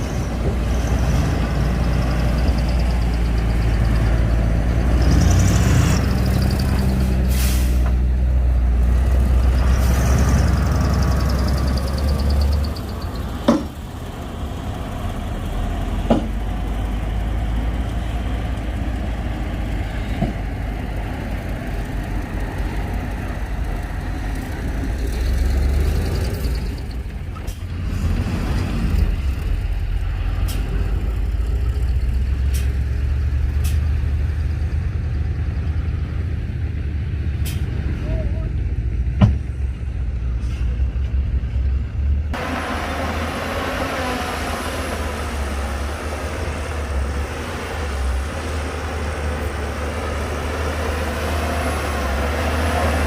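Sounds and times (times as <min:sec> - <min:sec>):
diesel engines droning: 0:00.0 - 0:53.0.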